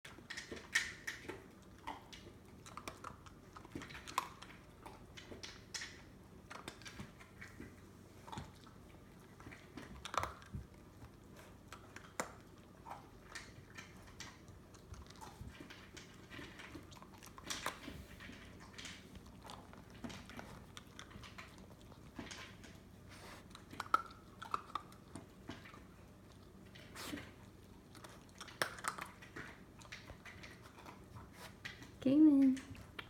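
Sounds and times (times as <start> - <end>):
puppy chewing kibble: 0.0 - 33.0.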